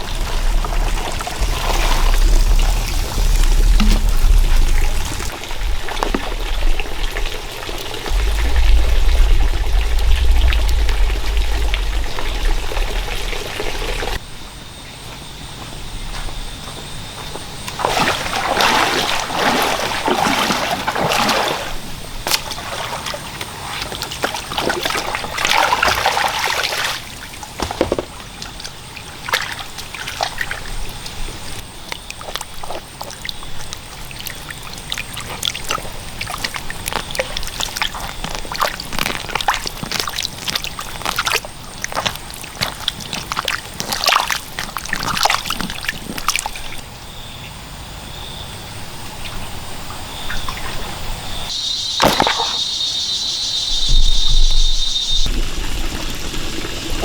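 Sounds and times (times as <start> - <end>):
water splashing and trickling: 0.0 - 14.2, 17.6 - 46.8, 49.9 - 57.0.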